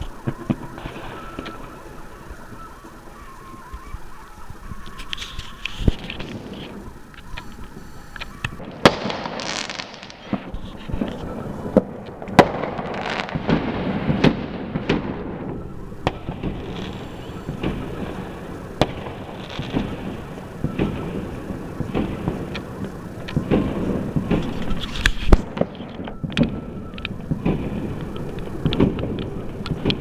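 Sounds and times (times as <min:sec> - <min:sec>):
fireworks banging: 0:00.0 - 0:30.0
fireworks crackling and hissing: 0:00.0 - 0:30.0.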